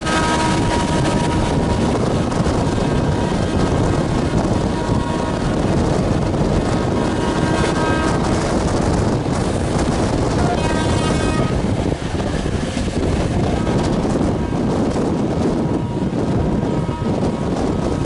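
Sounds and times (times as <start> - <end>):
train wheels rumbling on rail: 0.0 - 18.0
wind noise on microphone: 0.0 - 18.0.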